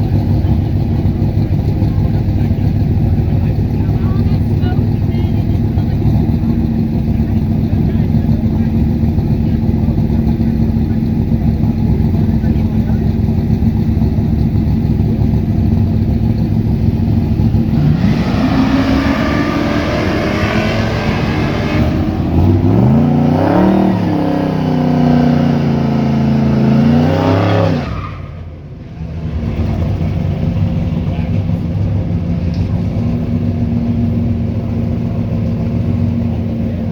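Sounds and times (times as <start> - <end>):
car engine rumbling and revving: 0.0 - 36.9.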